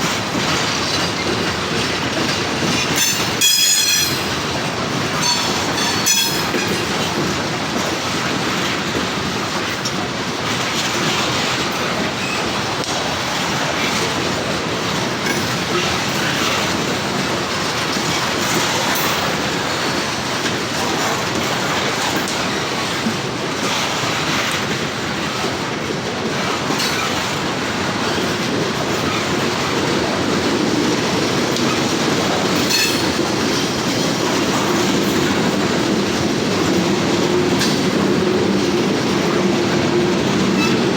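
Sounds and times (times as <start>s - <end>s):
freight train rolling past: 0.0s - 40.9s
wheels clattering over rails: 0.0s - 40.9s.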